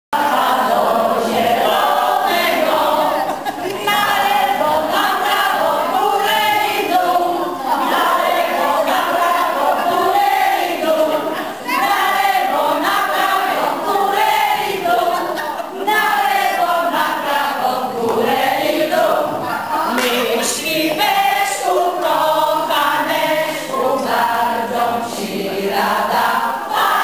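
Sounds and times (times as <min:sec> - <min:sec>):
group of people singing: 0:00.2 - 0:27.0.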